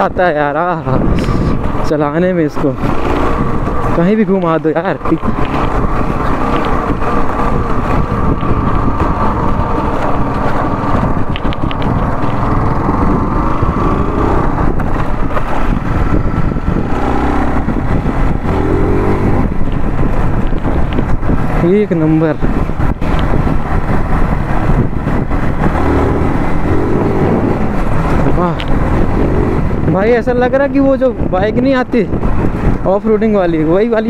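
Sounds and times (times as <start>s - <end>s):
motorcycle engine running: 0.6s - 33.9s.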